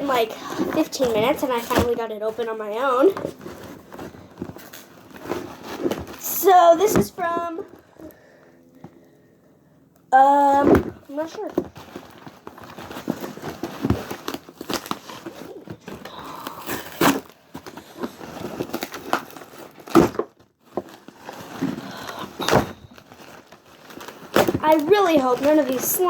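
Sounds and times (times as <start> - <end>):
packaging rustling and crinkling: 0.0 - 9.2, 10.6 - 26.0.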